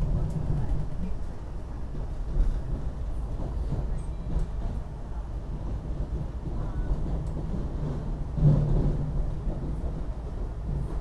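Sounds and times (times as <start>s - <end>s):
railcar bump: 0.0s - 11.0s
railcar rumble and hum: 0.0s - 11.0s.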